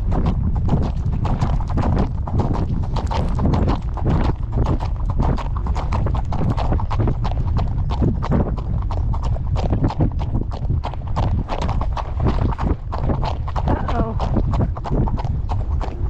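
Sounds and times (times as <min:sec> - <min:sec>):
constant low rumble: 0:00.0 - 0:16.0
horse hooves clip-clopping: 0:00.0 - 0:16.0.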